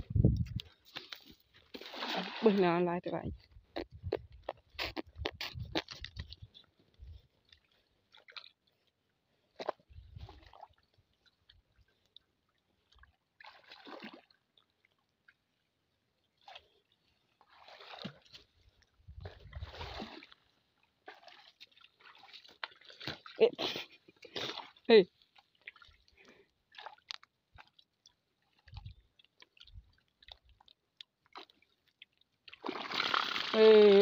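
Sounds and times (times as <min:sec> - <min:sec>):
muddy water splashing and sloshing: 0:00.0 - 0:34.0.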